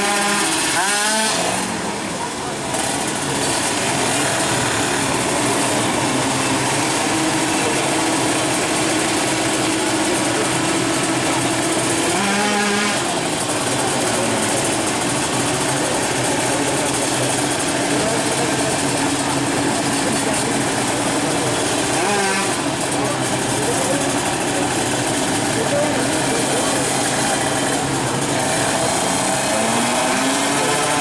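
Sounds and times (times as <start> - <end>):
crowd chatter: 0.0 - 31.0
two-stroke motorcycle engines: 0.0 - 31.0.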